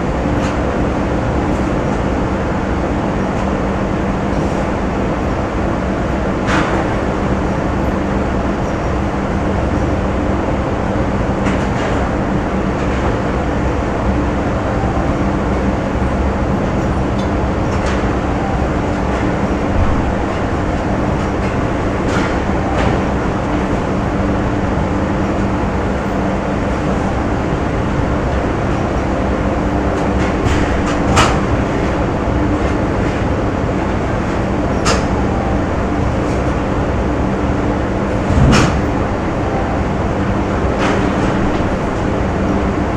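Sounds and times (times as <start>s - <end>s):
machinery rumble and hum: 0.0s - 42.9s.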